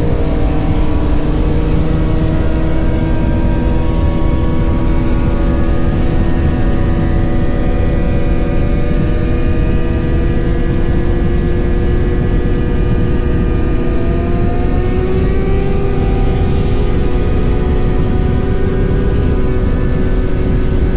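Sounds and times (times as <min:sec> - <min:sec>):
motorcycle engine cruising: 0:00.0 - 0:20.9.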